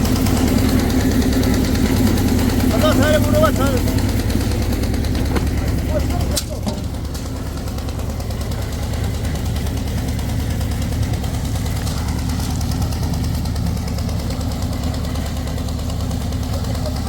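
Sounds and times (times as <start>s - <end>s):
combustion engine running: 0.0s - 17.0s.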